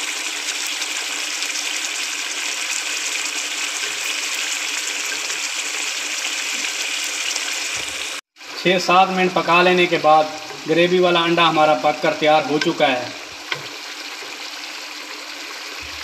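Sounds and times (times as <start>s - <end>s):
gravy sizzling in a pan: 0.0s - 16.0s.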